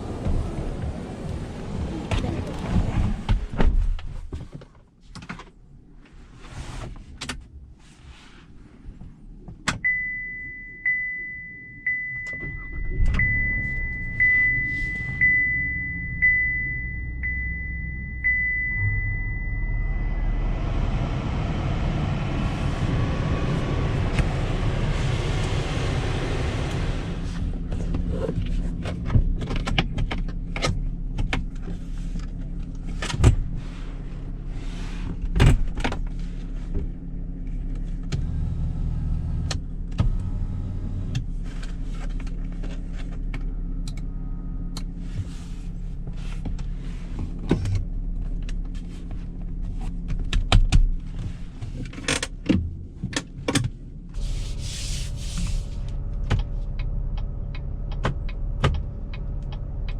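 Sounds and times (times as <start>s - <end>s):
engine hum in vehicle cabin: 0.0s - 59.9s.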